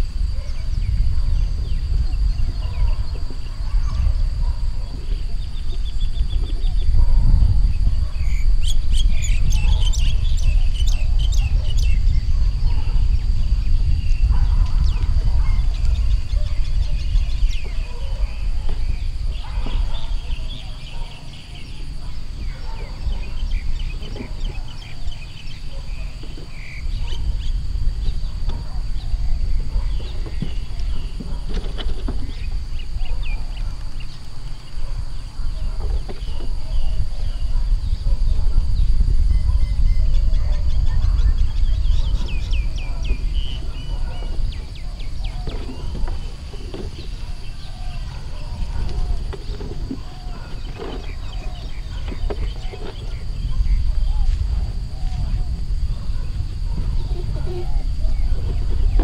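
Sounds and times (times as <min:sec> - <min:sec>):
steady low rumble: 0:00.0 - 0:31.5, 0:32.3 - 0:59.0
birds chirping: 0:00.0 - 0:59.0.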